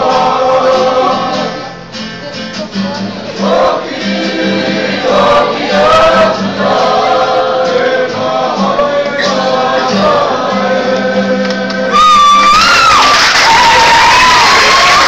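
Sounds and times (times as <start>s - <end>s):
group singing choir-style: 0.0s - 1.8s, 3.1s - 13.4s
strummed guitar: 0.0s - 12.3s.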